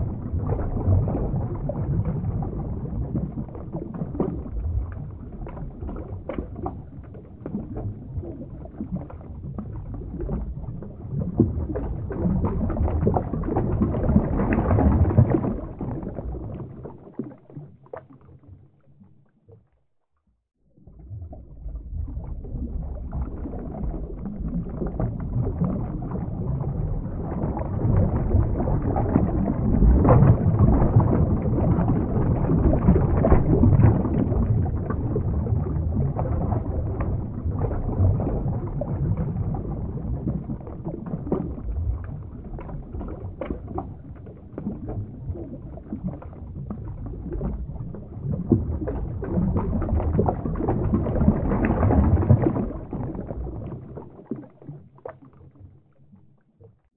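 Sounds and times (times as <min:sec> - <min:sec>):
underwater rumble of moving water: 0:00.0 - 0:56.9.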